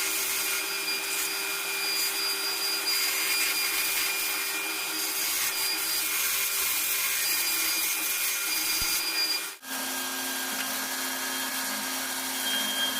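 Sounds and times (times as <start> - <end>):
power tool working wood: 0.0 - 12.9.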